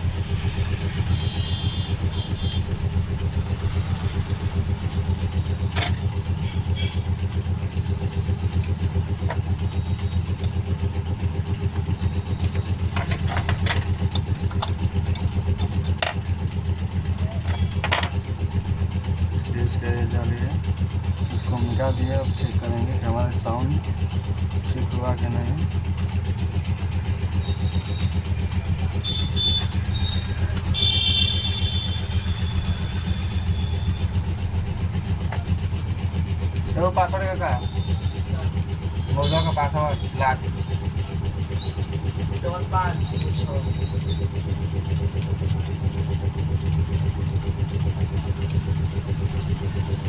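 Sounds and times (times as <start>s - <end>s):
low engine hum: 0.0s - 50.0s.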